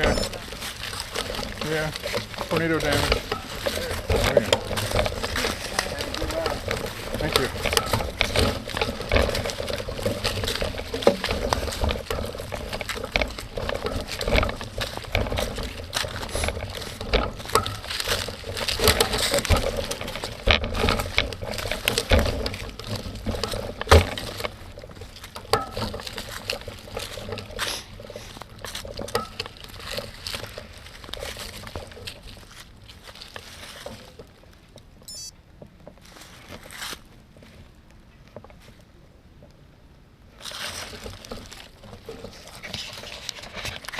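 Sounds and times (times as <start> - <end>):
bicycle frame rattling: 0.0 - 35.2, 40.4 - 43.9
bicycle tyres crunching on dirt: 0.0 - 39.0, 40.2 - 43.9.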